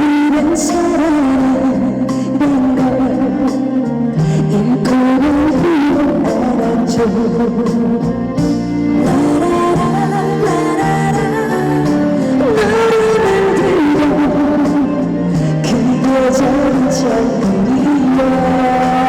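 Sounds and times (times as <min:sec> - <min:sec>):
backing music over pa: 0:00.0 - 0:19.0
woman singing: 0:00.0 - 0:19.0.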